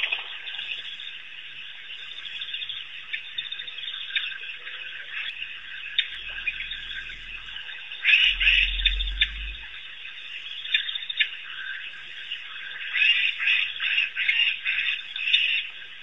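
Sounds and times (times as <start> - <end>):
wild dogs twittering and squealing: 0.0 - 16.0.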